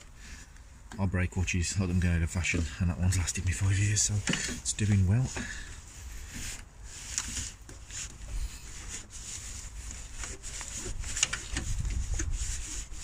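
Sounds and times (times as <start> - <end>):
rubber hose rubbing and scraping: 0.0 - 13.0.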